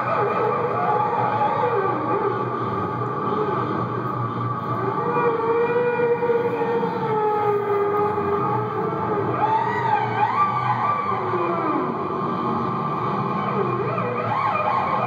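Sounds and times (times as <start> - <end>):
siren-like sliding tones: 0.0 - 15.0
steady low hum: 0.0 - 15.0.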